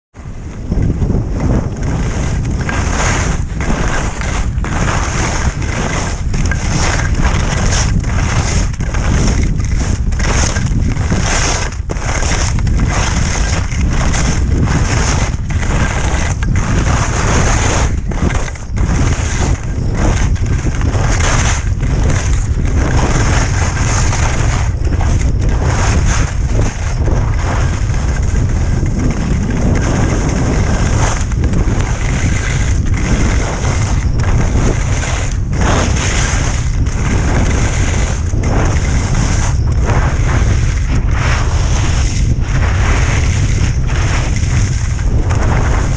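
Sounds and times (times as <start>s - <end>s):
wind buffeting microphone: 0.1s - 45.9s
ski edges scraping snow: 0.4s - 45.9s.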